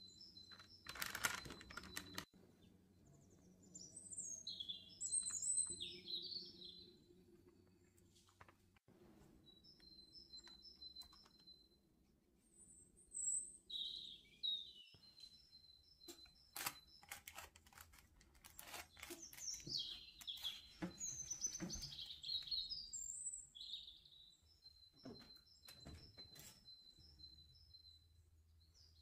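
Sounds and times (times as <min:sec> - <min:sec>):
small birds chirping: 0:00.0 - 0:08.4, 0:09.4 - 0:29.0.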